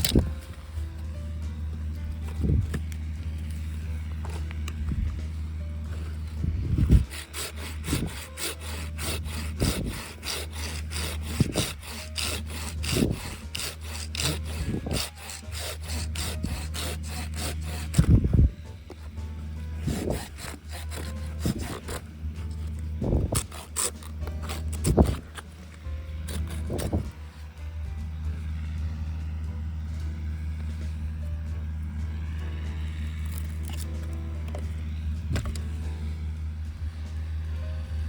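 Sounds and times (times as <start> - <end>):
wood being sawn by hand: 0.0 - 38.0.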